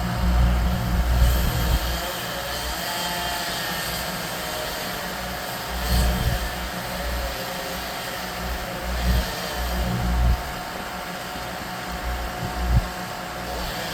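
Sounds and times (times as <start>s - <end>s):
distant tree-cutting machine drone: 0.0s - 13.9s.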